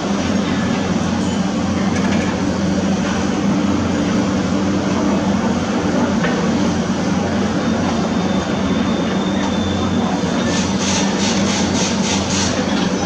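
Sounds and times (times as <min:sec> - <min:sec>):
construction machinery diesel engine: 0:00.0 - 0:13.0.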